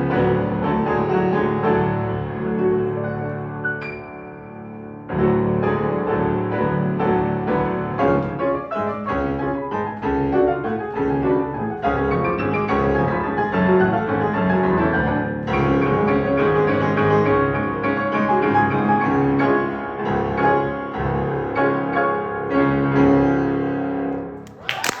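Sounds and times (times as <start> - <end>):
classical piano piece: 0.0 - 24.5.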